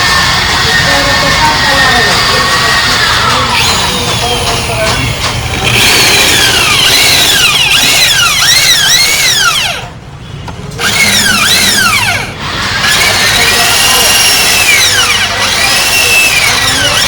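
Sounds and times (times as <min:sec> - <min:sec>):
electric drill whining: 0:00.0 - 0:10.0, 0:10.8 - 0:17.0.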